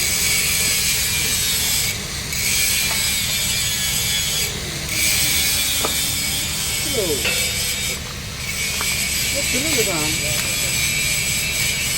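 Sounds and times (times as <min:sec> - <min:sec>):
welding arc crackling and hissing: 0:00.0 - 0:11.9.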